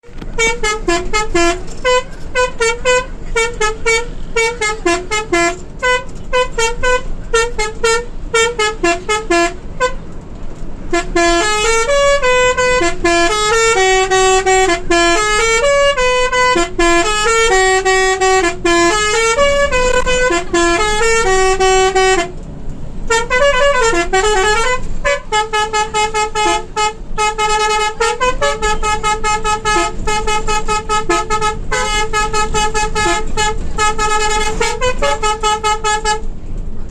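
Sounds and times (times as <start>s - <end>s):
bus musical horn playing tune: 0.0s - 36.4s.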